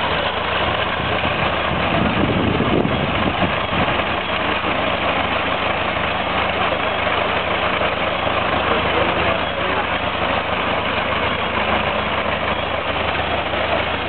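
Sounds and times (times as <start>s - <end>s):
old engine idling: 0.0s - 14.0s.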